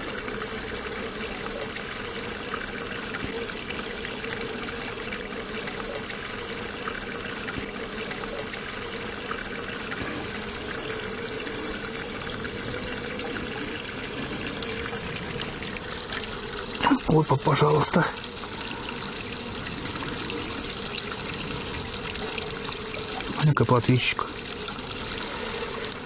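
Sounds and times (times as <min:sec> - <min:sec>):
water trickling in a pond: 0:00.0 - 0:26.0.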